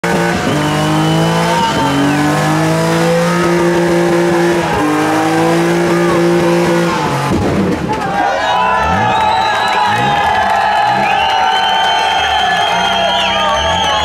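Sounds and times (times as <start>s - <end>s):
car engine revving high: 0.0s - 14.0s.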